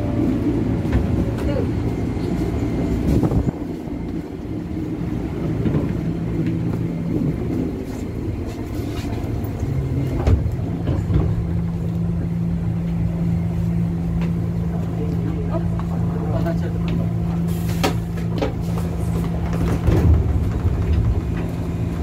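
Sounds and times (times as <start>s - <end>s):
train electrical hum: 0.0s - 22.0s.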